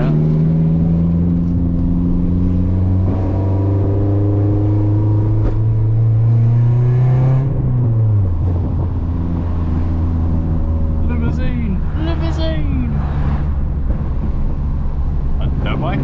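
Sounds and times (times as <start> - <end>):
car engine driving: 0.0 - 16.0.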